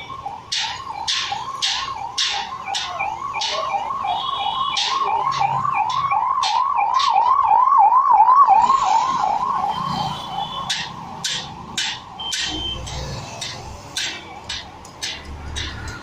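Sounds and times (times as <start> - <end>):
emergency vehicle siren wailing: 0.0 - 16.0.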